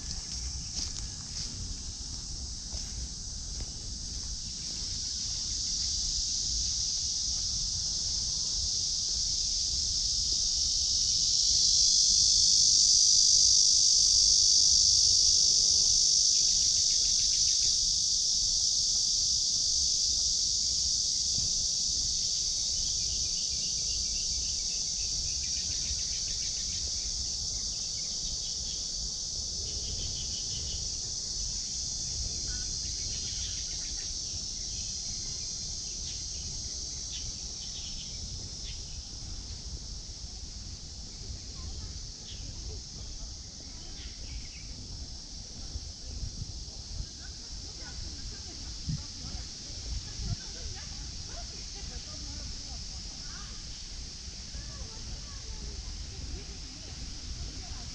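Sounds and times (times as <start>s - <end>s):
insects buzzing: 0.0s - 57.9s.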